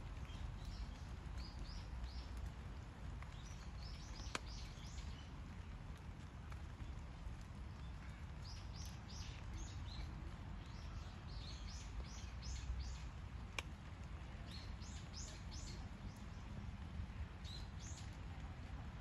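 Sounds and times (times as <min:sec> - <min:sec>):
small birds chirping: 0:00.2 - 0:02.5, 0:03.2 - 0:05.8, 0:06.8 - 0:13.7, 0:14.3 - 0:16.6, 0:17.3 - 0:18.5.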